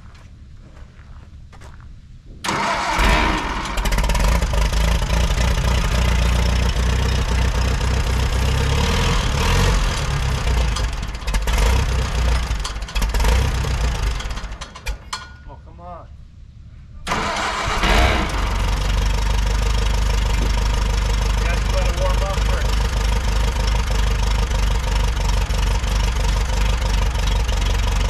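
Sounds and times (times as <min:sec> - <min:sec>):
tractor engine cranking and running: 0:02.4 - 0:15.8, 0:17.0 - 0:28.0.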